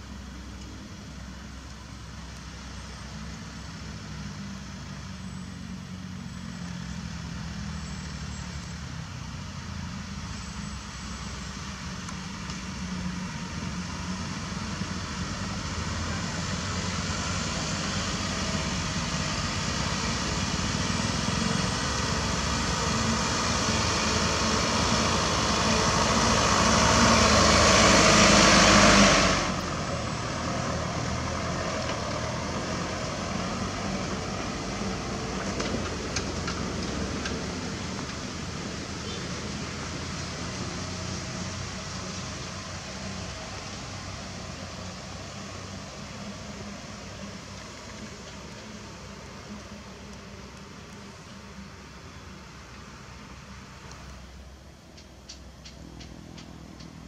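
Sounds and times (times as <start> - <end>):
truck diesel engine passing: 0.0 - 57.0.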